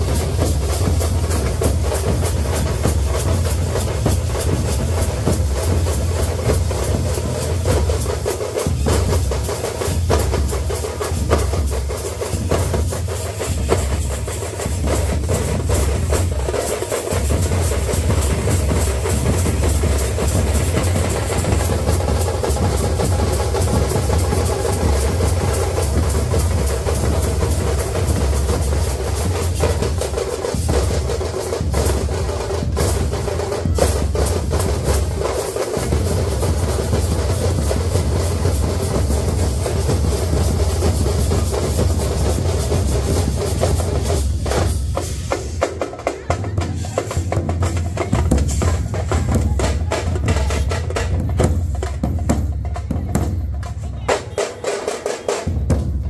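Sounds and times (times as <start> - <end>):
drums playing fast rhythm: 0.0 - 56.0.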